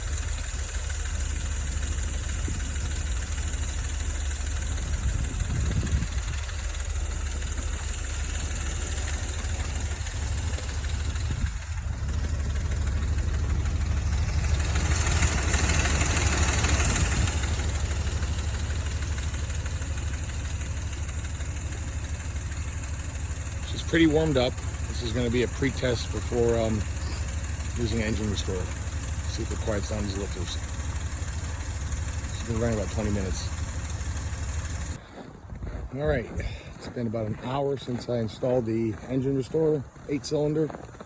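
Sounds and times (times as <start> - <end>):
engine idling with lifter tick: 0.0 - 41.0.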